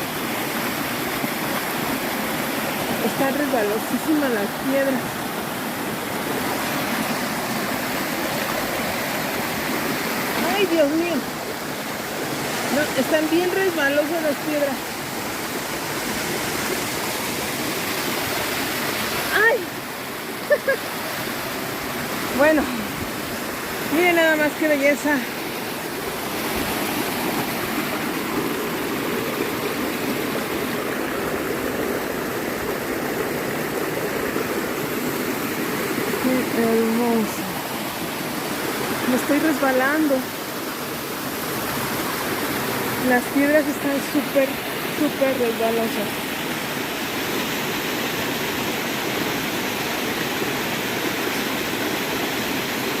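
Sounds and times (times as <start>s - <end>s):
waterfall and river rushing: 0.0s - 53.0s.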